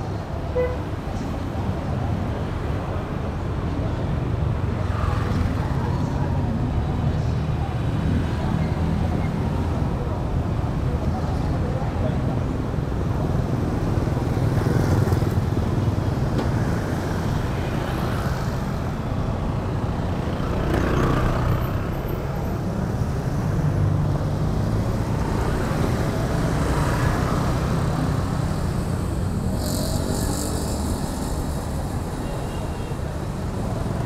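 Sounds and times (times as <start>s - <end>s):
motorcycles and cars passing: 1.0s - 34.0s.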